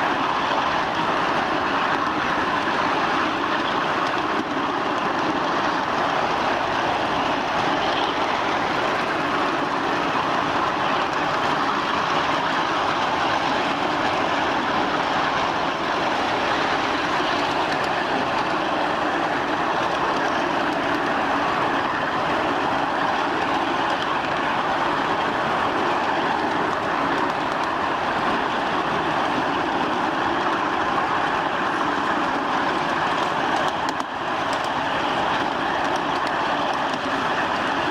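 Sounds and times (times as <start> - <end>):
miniature train rolling on track: 0.0 - 37.9.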